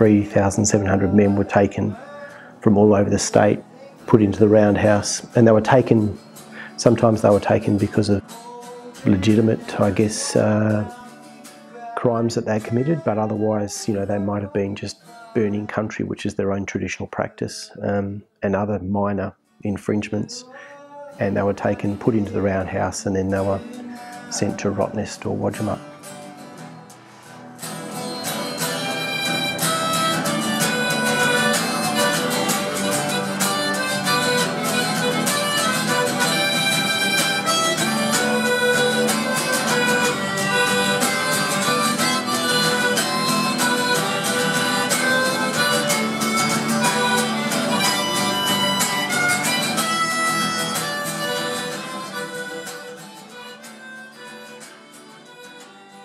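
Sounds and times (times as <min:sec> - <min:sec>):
harmonica: 0:00.0 - 0:16.1, 0:20.4 - 0:56.0
strummed acoustic guitar: 0:00.0 - 0:17.0, 0:19.4 - 0:56.0.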